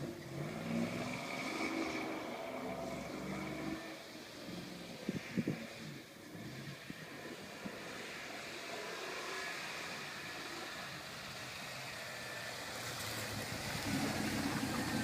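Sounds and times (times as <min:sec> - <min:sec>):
vehicle running: 0:00.0 - 0:15.0.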